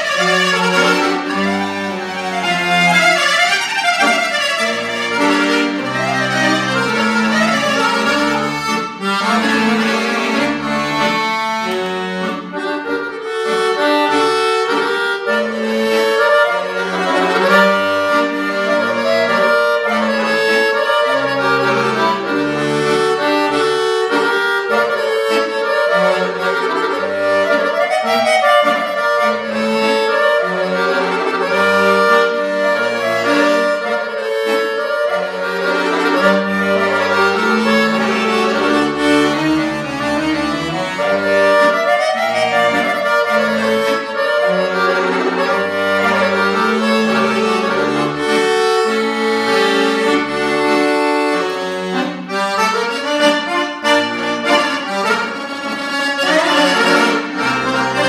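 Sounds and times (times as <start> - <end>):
button accordion playing folk song: 0.0 - 58.0.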